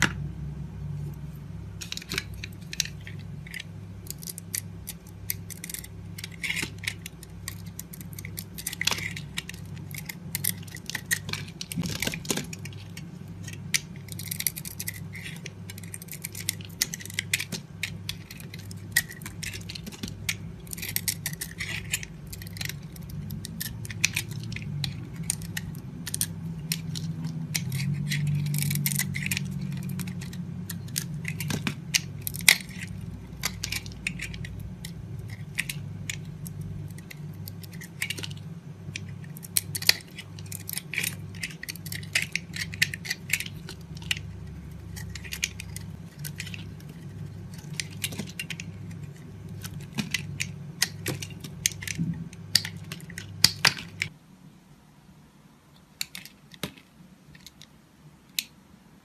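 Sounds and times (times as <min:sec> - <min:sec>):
knife shaving bar soap: 0:01.1 - 0:54.1.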